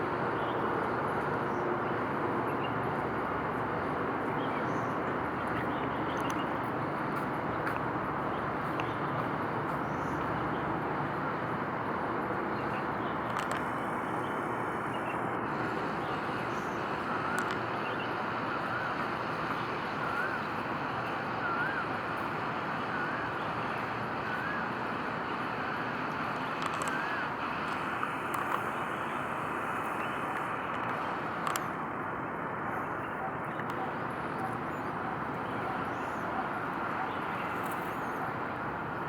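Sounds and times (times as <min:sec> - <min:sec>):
outdoor background noise: 0:00.0 - 0:39.0.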